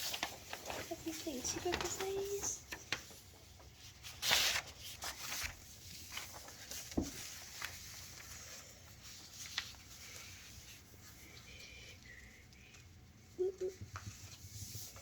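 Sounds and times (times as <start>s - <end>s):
paper rustling: 0.0s - 12.9s, 13.8s - 15.0s.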